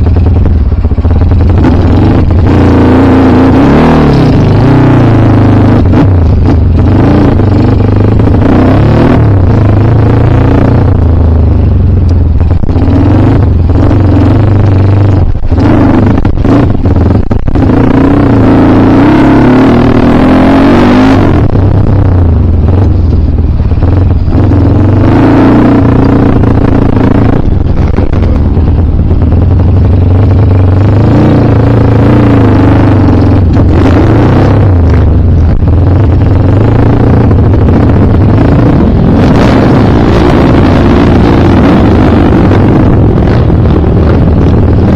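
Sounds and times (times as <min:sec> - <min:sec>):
dirt bike engine revving: 0:00.0 - 0:11.0, 0:12.3 - 0:44.9.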